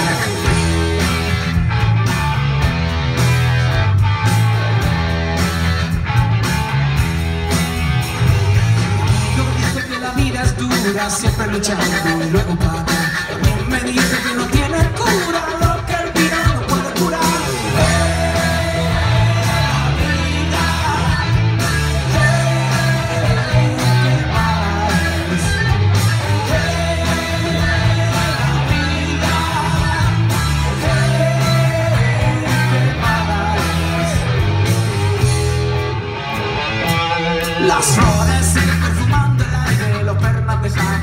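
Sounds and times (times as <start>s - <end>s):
electric bass line: 0.0s - 41.0s
rock band playing live: 0.0s - 41.0s.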